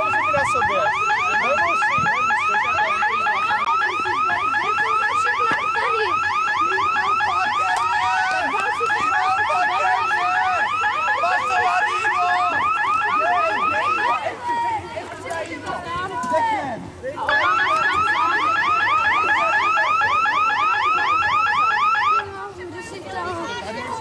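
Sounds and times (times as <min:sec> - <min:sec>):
electronic alarm siren whooping: 0:00.0 - 0:14.3, 0:17.3 - 0:22.3.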